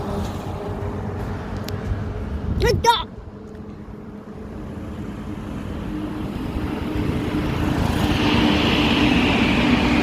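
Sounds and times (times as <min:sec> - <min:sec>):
diesel locomotive engine drone: 0:00.0 - 0:10.0.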